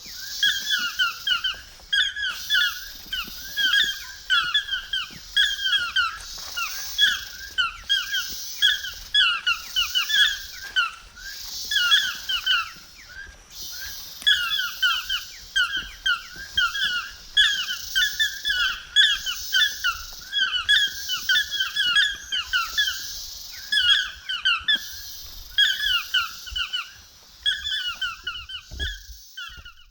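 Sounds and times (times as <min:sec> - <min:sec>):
squeaky animal calls: 0:00.4 - 0:11.0, 0:11.6 - 0:12.8, 0:13.7 - 0:25.0, 0:25.6 - 0:26.9, 0:27.5 - 0:29.9.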